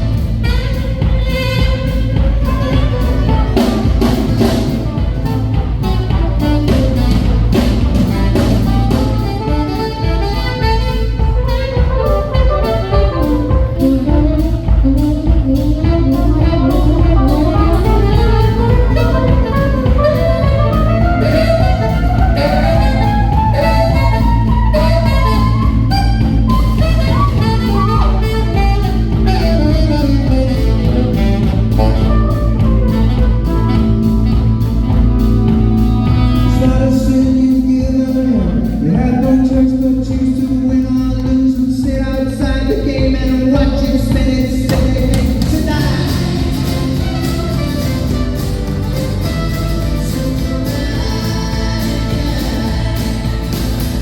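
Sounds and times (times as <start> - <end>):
live band playing: 0.0 - 54.0
saxophone-like lead melody: 0.0 - 54.0.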